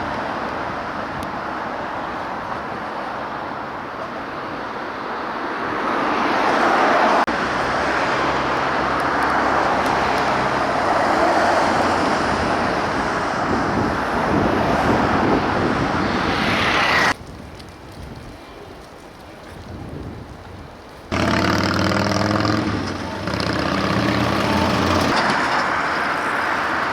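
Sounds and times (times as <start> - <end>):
road traffic roar: 0.0 - 17.2, 21.1 - 26.9.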